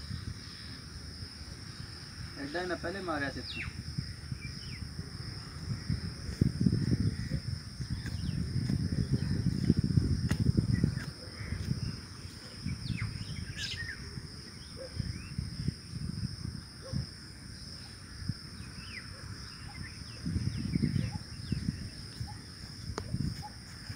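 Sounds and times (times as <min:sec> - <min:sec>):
insects droning: 0:00.0 - 0:23.9.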